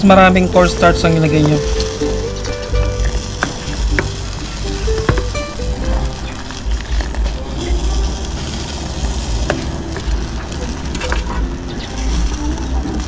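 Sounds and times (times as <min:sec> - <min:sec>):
sauce bubbling and sizzling: 0:00.0 - 0:13.0
steady low rumble: 0:00.0 - 0:13.0.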